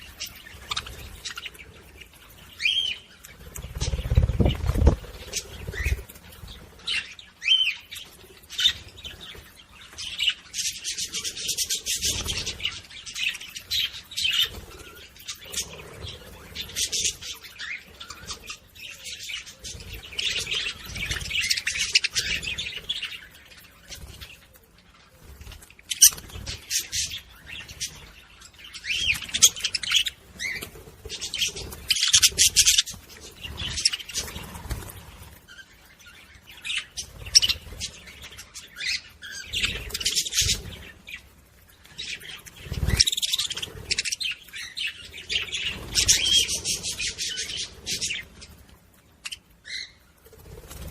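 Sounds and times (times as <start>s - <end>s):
budgerigars chattering and chirping: 0.0s - 24.4s, 25.0s - 50.0s.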